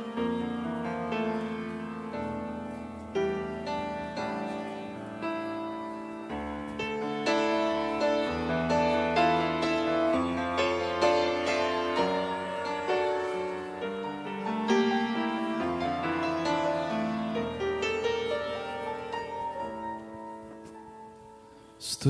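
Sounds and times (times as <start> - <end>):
piano playing a slow hymn: 0.0 - 22.0.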